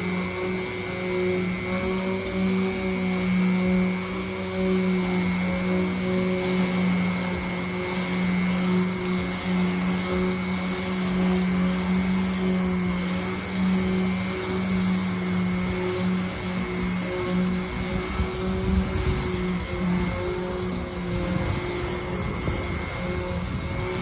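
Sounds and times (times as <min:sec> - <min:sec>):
power sander running: 0:00.0 - 0:24.0.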